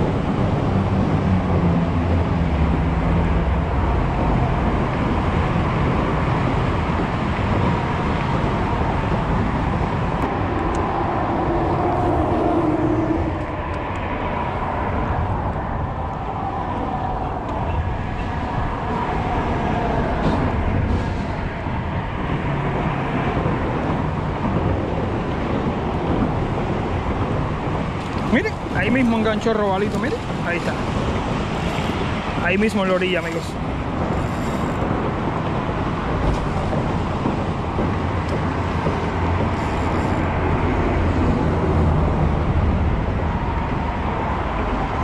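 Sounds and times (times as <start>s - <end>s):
traffic rumble on bridges: 0.0s - 45.0s.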